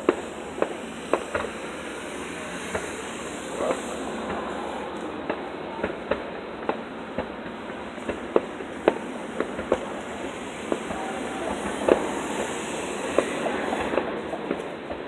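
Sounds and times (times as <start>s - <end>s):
firecrackers popping: 0.0s - 15.0s
rushing background noise: 0.0s - 15.0s.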